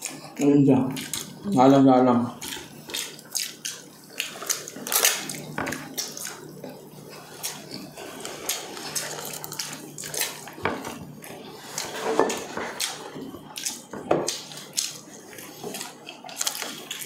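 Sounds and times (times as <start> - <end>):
wet chewing and lip-smacking: 0.0 - 1.5, 2.4 - 17.0.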